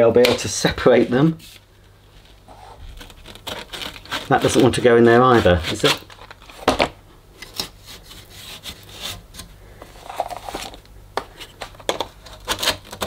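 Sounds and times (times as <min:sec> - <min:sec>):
hard plastic rubbing and scraping: 0:02.2 - 0:13.0.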